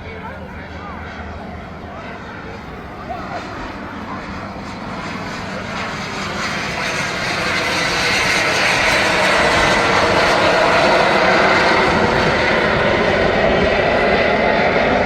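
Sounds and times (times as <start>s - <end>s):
airplane engine roar: 0.0s - 15.0s.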